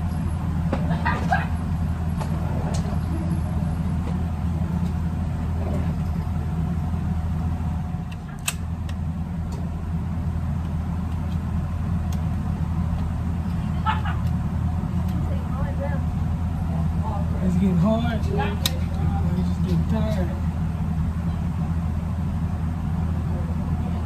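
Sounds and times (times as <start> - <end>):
low car engine hum: 0.0 - 24.0.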